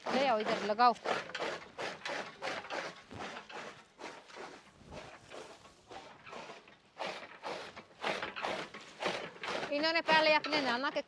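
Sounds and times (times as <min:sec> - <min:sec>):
chaff cutter chopping stalks: 0:00.0 - 0:11.0.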